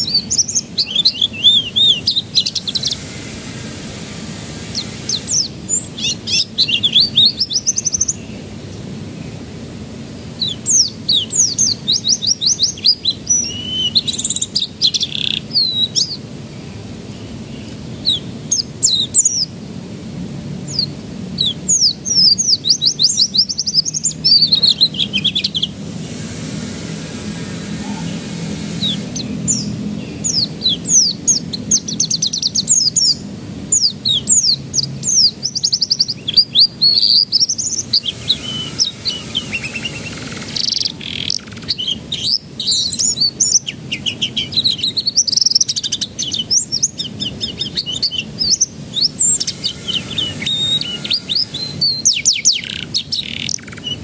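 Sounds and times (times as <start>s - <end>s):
canary singing trills: 0.0s - 9.4s, 10.3s - 19.6s, 20.6s - 54.0s.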